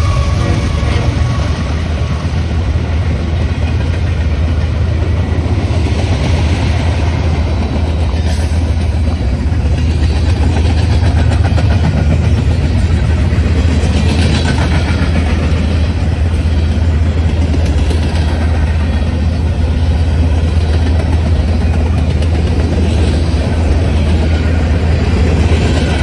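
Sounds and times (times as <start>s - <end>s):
diesel locomotive engine drone: 0.0s - 26.0s
train rolling noise: 0.0s - 26.0s.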